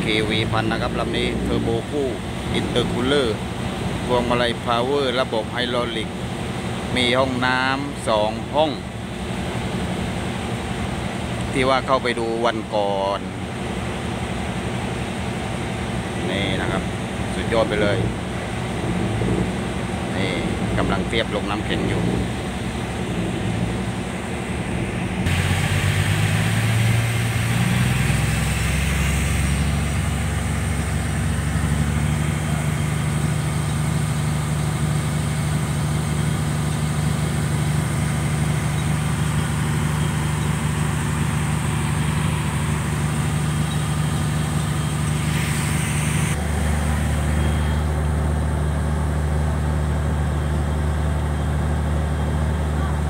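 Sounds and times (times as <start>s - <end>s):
boat diesel engine droning: 0.0s - 53.0s.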